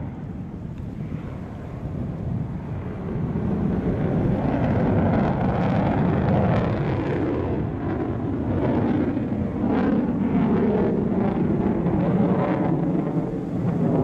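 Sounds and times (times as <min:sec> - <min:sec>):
fighter jet engines roaring: 0:00.0 - 0:14.0.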